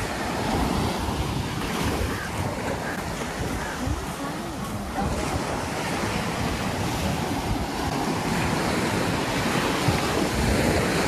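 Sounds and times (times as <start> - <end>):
sea surf washing onto beach: 0.0 - 11.0
wind rumbling on microphone: 0.0 - 11.0.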